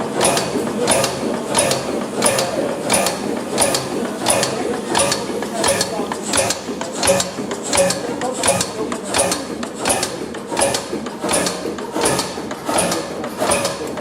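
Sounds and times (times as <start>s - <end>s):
old engine running slowly: 0.0s - 14.0s
valve gear clattering: 0.0s - 14.0s.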